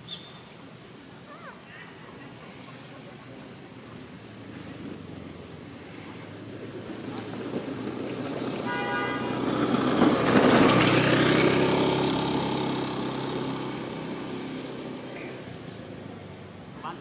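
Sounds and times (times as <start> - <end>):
vehicle passing by: 1.5 - 17.0.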